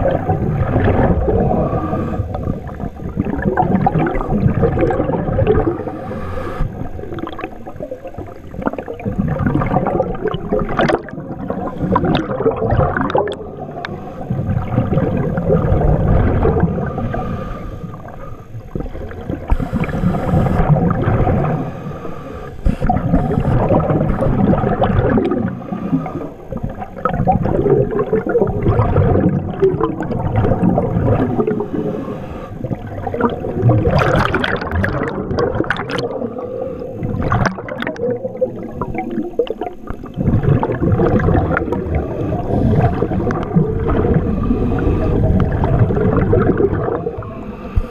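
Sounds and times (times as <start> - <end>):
underwater breath bubbling: 0.0 - 47.9.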